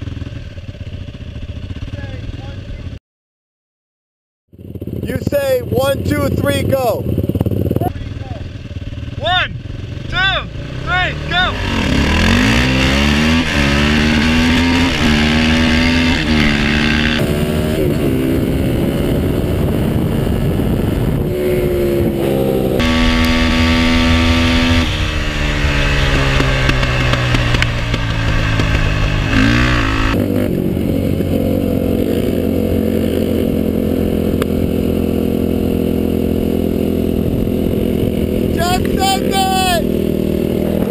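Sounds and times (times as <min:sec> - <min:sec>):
quad engine revving with upshifts: 0:04.5 - 0:40.9.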